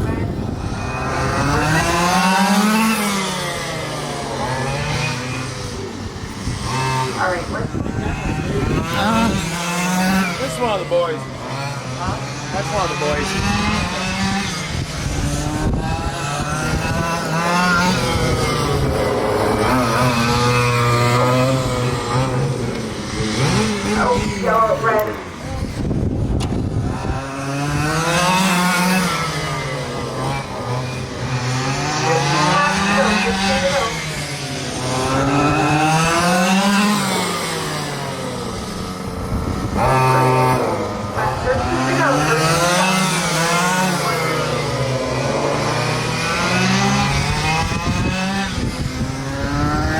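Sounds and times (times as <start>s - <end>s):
rc truck engines revving: 0.0s - 49.9s.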